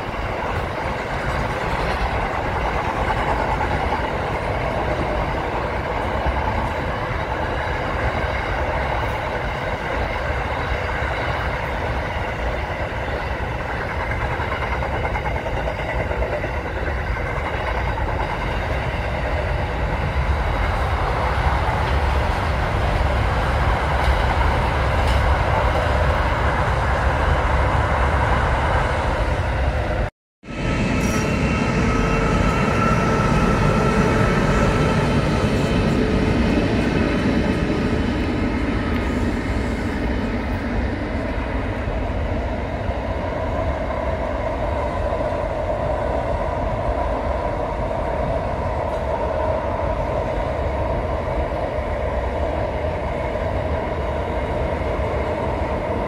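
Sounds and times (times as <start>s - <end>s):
train running noise with steady tone: 0.0s - 56.0s
train wheels rumbling on rails: 0.0s - 56.0s.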